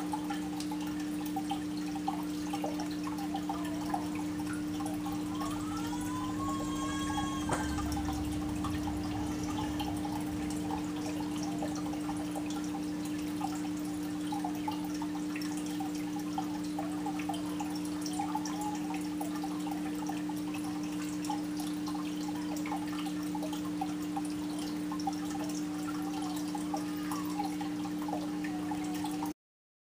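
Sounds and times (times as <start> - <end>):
aquarium filter hum: 0.0 - 29.3
water trickling and dripping: 0.0 - 29.3.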